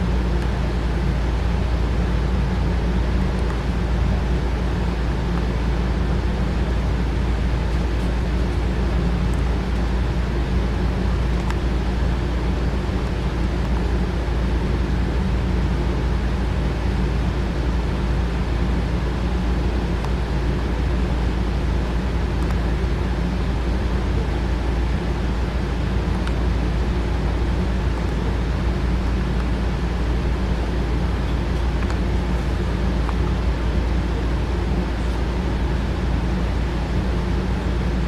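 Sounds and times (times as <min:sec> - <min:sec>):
low hum and rumble: 0:00.0 - 0:38.0.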